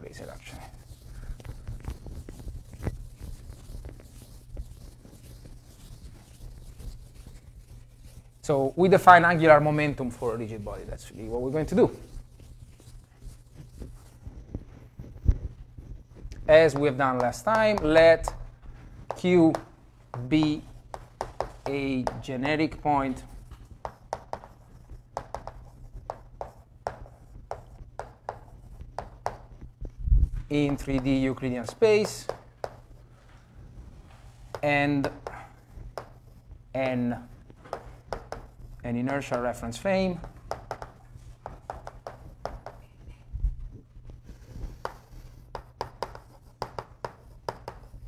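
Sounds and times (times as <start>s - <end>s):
chalk tapping on chalkboard: 0.3s - 14.2s, 16.4s - 29.7s, 30.4s - 33.0s, 34.3s - 36.5s, 37.2s - 43.0s, 44.3s - 48.0s.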